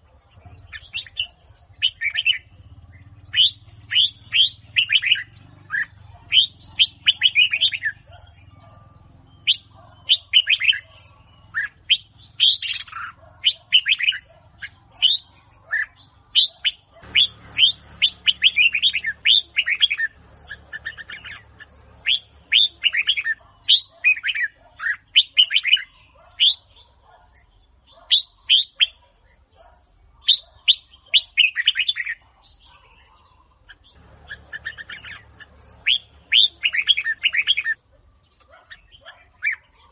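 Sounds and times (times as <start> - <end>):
bird singing sweeping chirps: 0.3 - 29.0, 30.2 - 39.9.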